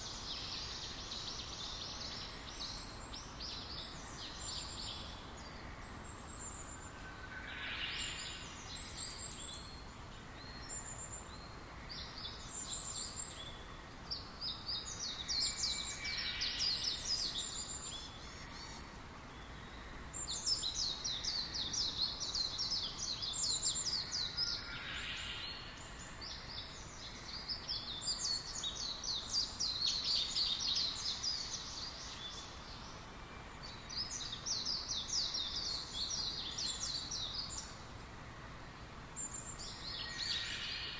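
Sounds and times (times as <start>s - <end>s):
low background hiss: 0.0s - 40.9s
songbirds chirping trills: 0.0s - 40.9s.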